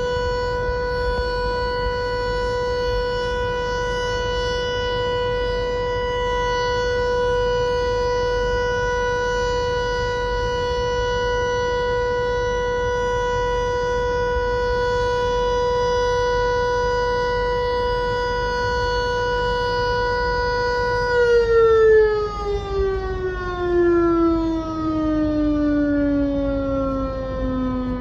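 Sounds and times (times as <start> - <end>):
tornado siren steady tone: 0.0 - 28.0.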